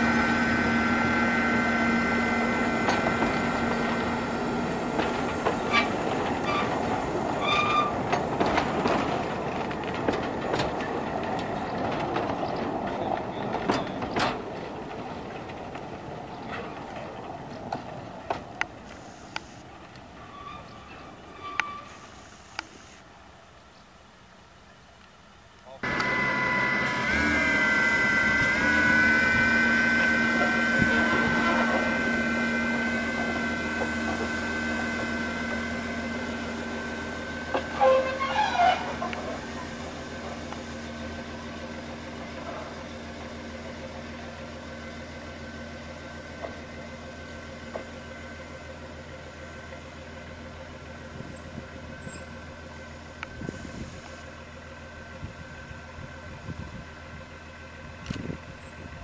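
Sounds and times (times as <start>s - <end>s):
railcar diesel engine drone: 0.0s - 59.0s.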